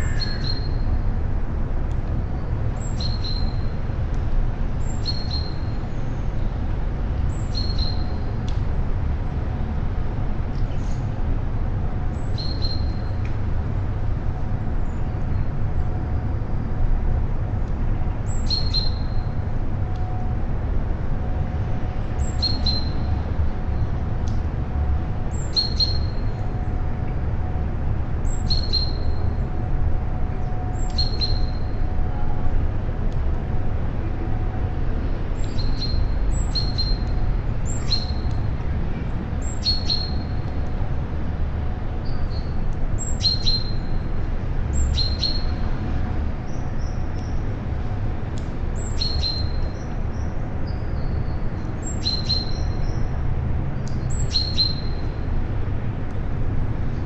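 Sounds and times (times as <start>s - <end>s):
steady low rumble: 5.6s - 51.9s.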